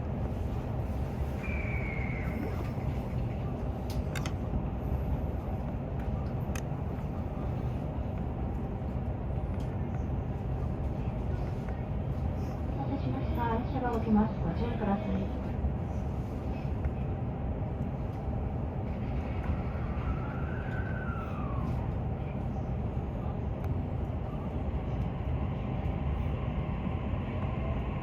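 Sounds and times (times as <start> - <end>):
train running rumble: 0.0 - 28.0.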